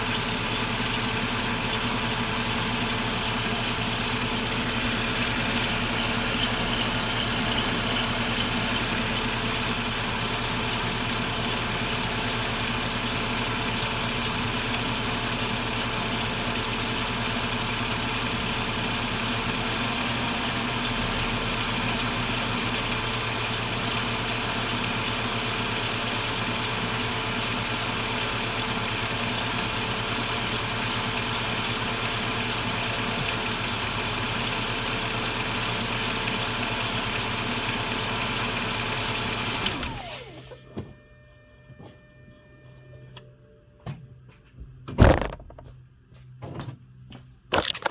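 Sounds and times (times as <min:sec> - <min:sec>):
car engine idling: 0:00.0 - 0:40.6.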